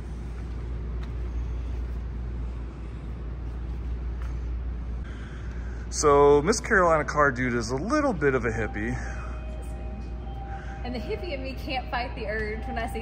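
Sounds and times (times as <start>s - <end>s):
indoor low hum and rumble: 0.0s - 13.0s.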